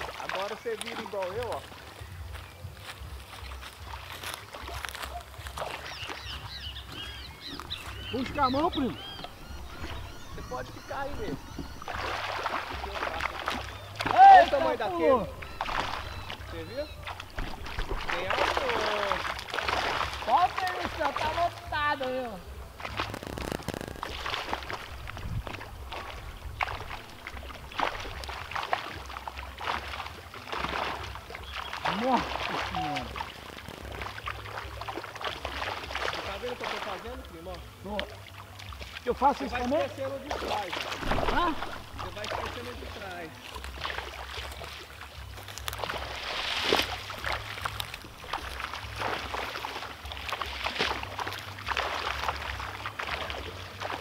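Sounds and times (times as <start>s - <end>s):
water splashing and sloshing: 0.0s - 54.0s.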